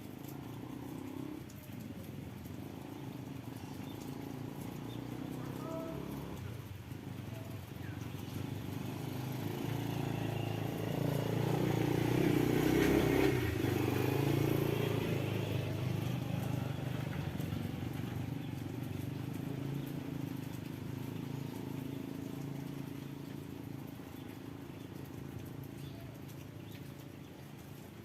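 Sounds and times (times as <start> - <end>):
motorcycle passing by: 0.0 - 28.0.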